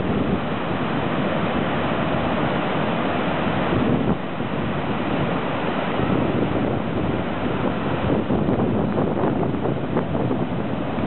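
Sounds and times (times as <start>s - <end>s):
wind buffeting microphone: 0.0s - 2.7s, 3.5s - 11.0s
waves breaking on beach: 0.0s - 11.0s.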